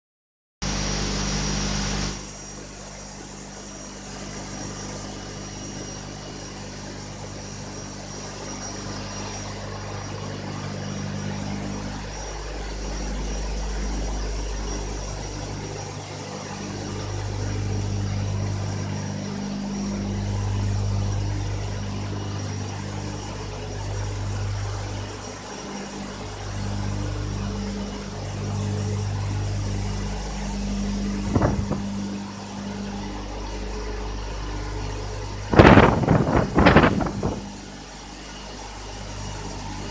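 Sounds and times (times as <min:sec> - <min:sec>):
faint high whine: 0:00.6 - 0:39.9
turbine low hum: 0:00.6 - 0:39.9.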